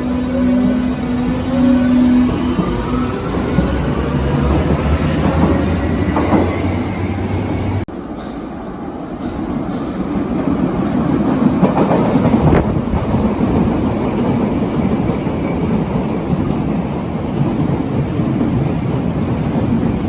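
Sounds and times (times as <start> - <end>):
train running on track: 0.0 - 20.0.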